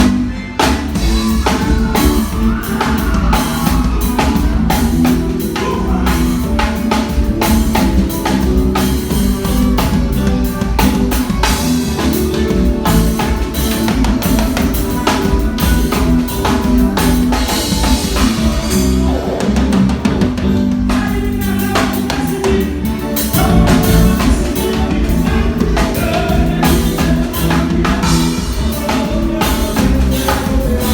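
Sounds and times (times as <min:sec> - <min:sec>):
drum kit hitting steadily: 0:00.0 - 0:30.9
live band playing: 0:00.0 - 0:30.9
person singing: 0:00.0 - 0:30.9.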